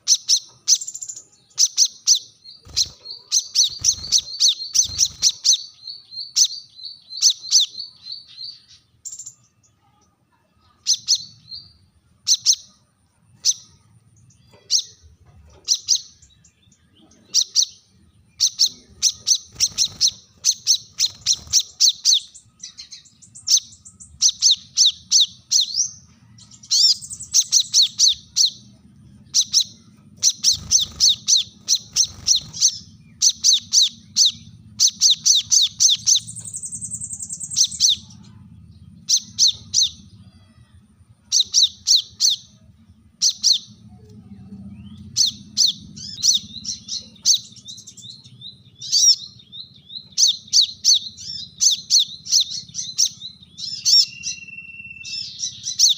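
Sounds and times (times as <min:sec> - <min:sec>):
bird buzzy trill: 0:00.0 - 0:09.6, 0:10.8 - 0:55.9
bird chirping rapidly: 0:00.0 - 0:09.6, 0:10.7 - 0:55.9.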